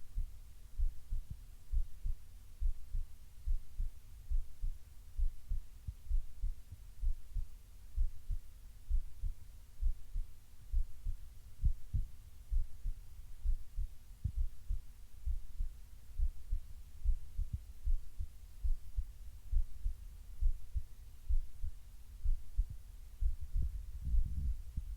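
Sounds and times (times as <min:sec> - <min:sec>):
faint steady hum: 0:00.0 - 0:24.9
heartbeat thumps: 0:00.0 - 0:24.9.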